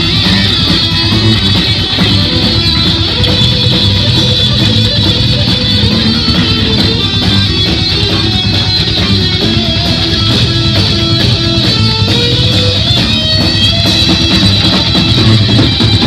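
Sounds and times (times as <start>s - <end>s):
heavy metal band playing: 0.0s - 16.0s.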